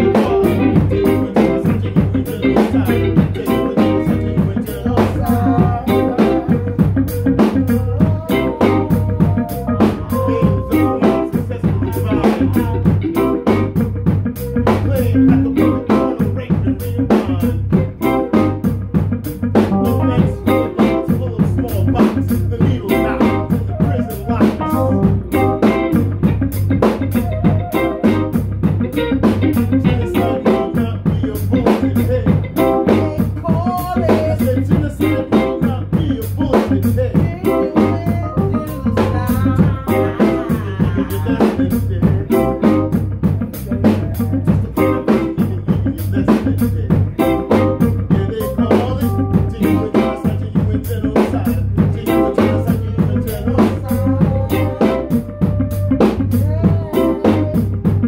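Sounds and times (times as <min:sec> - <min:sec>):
bass line: 0:00.0 - 0:58.0
drum kit beat: 0:00.0 - 0:58.0
guitar: 0:00.0 - 0:58.0
keyboard: 0:00.0 - 0:58.0.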